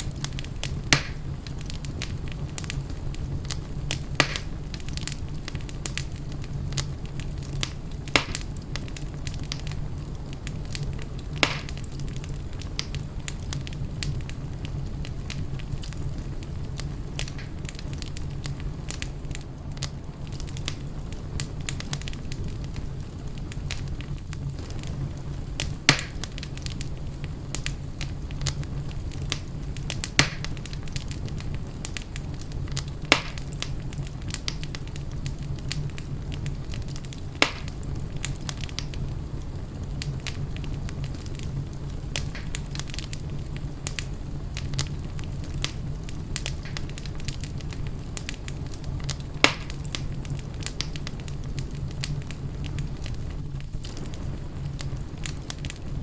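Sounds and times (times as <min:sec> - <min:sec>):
burning logs popping: 0:00.0 - 0:56.0
wood fire crackling: 0:00.0 - 0:56.0.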